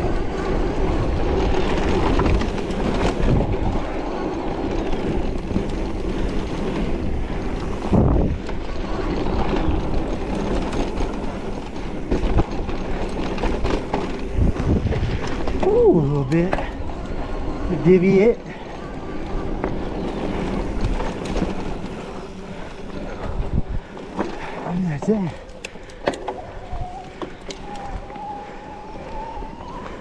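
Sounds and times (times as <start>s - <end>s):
wind on microphone: 0.0s - 12.8s, 13.6s - 17.8s, 19.3s - 24.6s, 26.3s - 30.0s
bike tyres rattling over rough ground: 0.0s - 30.0s.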